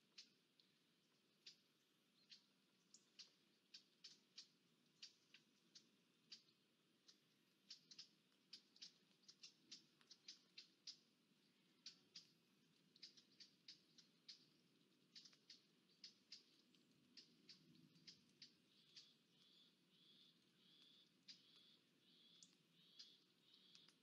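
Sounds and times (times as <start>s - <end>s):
low background hiss: 0.0s - 24.0s
raindrops ticking on housing: 0.1s - 24.0s.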